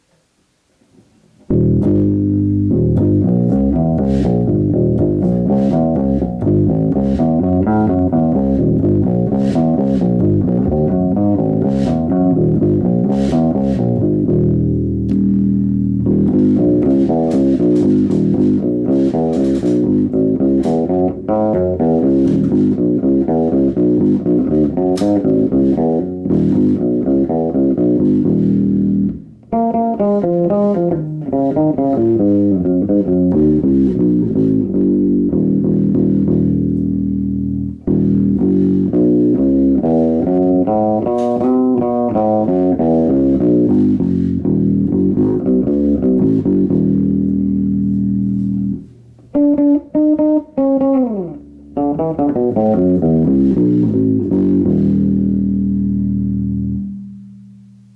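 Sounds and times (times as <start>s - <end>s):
electric bass quick plucked notes: 1.5s - 57.9s.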